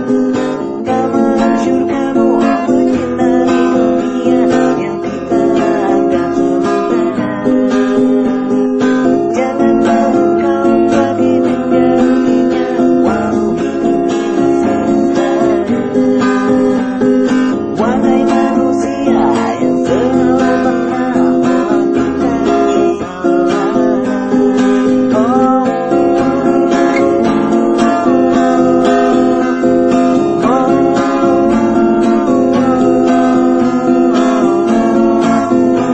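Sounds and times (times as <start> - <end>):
acoustic guitar strumming: 0.0 - 35.9.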